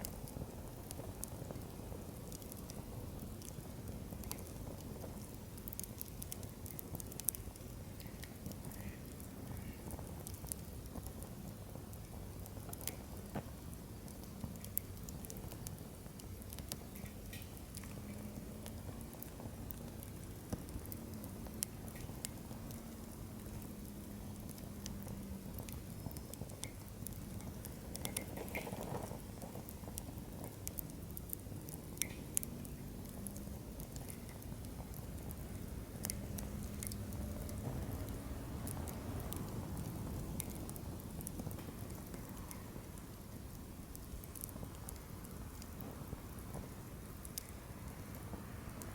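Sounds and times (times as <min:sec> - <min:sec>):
campfire crackling and popping: 0:00.0 - 0:48.9
low rumble of flame: 0:00.0 - 0:48.9.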